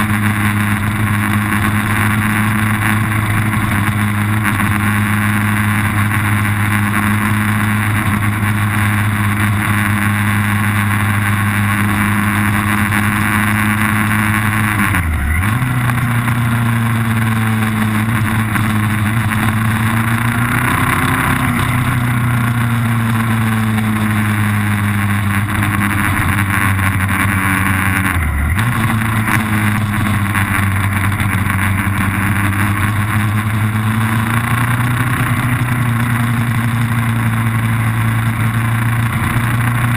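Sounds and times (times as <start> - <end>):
race vehicle engine running hard: 0.0 - 39.9.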